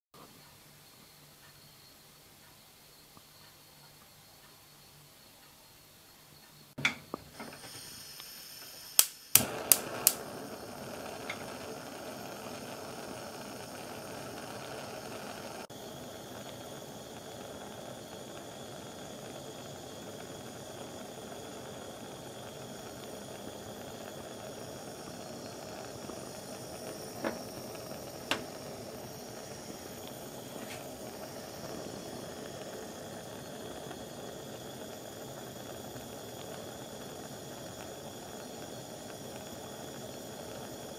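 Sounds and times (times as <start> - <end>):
gas flame hissing: 6.7 - 40.9
gas igniter clicks: 6.8 - 15.7, 16.4 - 40.9.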